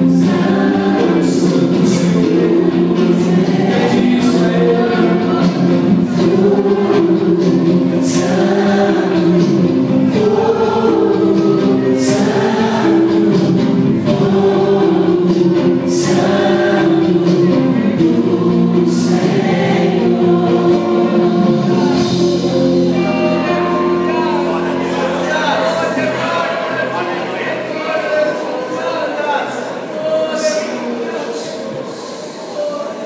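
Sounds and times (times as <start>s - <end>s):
sustained chords: 0.0s - 29.8s
choir singing worship song: 0.0s - 33.0s.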